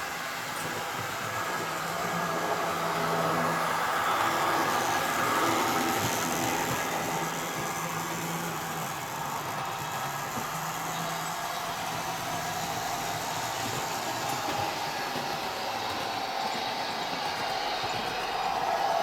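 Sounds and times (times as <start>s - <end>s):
model train motor hum: 0.0s - 19.0s
wheels on rail: 0.0s - 19.0s.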